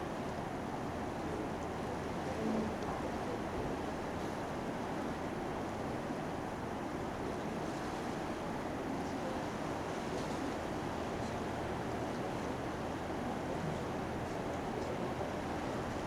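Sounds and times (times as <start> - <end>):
rushing wind and water: 0.0 - 16.0.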